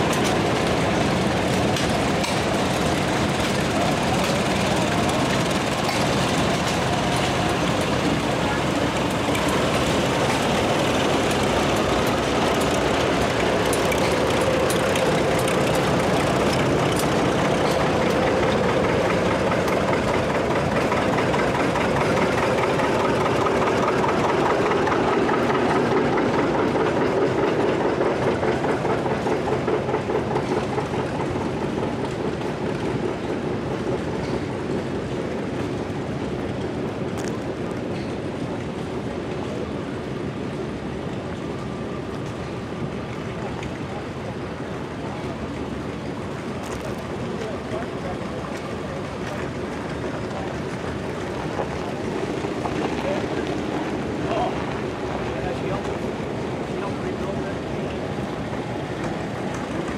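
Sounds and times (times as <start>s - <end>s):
tractor engines driving past: 0.0s - 59.9s.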